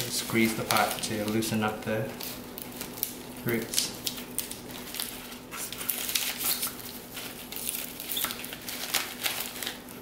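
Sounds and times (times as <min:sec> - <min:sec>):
plastic pot crinkling: 0:00.0 - 0:10.0.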